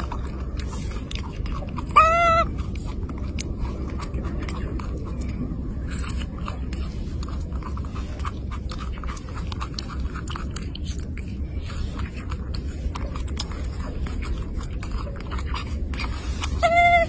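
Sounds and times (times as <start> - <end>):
animal chewing: 0.0 - 17.0
low hum: 0.0 - 17.0.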